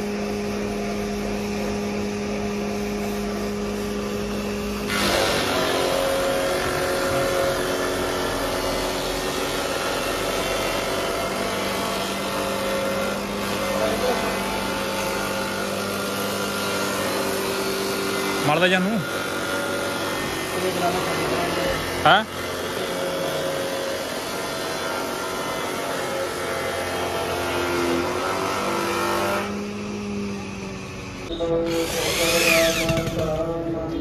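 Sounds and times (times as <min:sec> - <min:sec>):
cutter cutting wooden board: 0:00.0 - 0:33.6
woodworking machine motor humming: 0:00.0 - 0:33.6.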